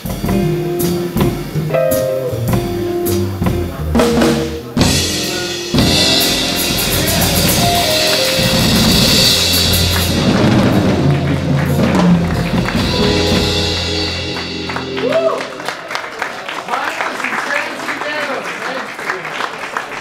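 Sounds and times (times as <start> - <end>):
jazz band playing: 0.0 - 16.6.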